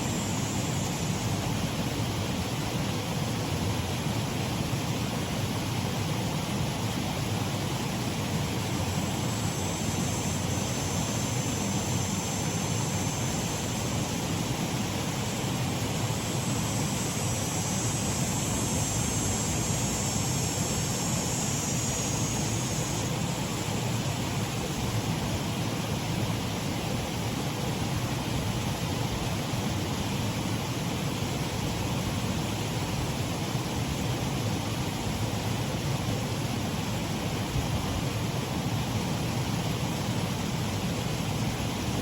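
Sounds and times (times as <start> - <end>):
faint high hiss: 0.0 - 42.0
water rushing over waterfall: 0.0 - 42.0.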